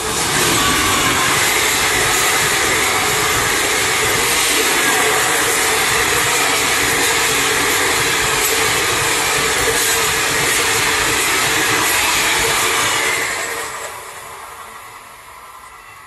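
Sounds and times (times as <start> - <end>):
train coaches rushing past: 0.0 - 16.0.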